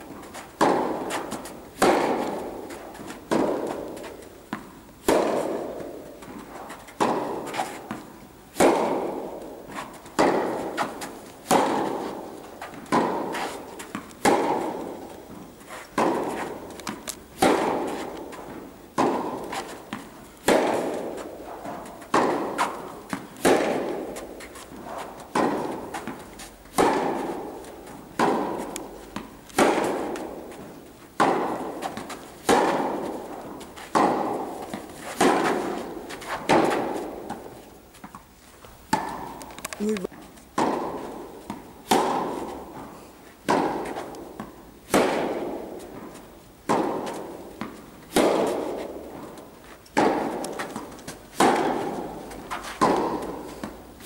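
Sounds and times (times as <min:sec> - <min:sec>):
tennis balls hit with rackets: 0:00.0 - 0:54.0.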